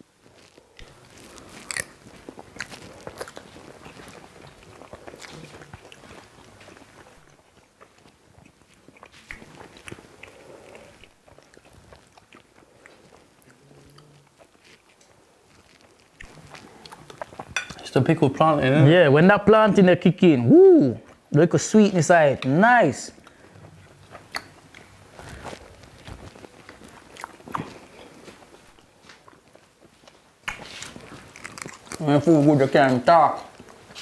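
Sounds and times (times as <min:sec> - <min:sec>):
people chewing: 0:00.0 - 0:18.8, 0:22.4 - 0:34.0.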